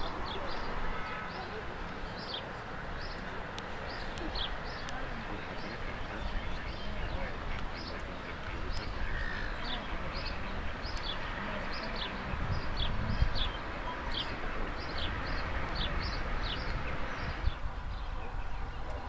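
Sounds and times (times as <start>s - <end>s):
low wind rumble: 0.0s - 19.0s
small birds chirping: 0.0s - 19.0s.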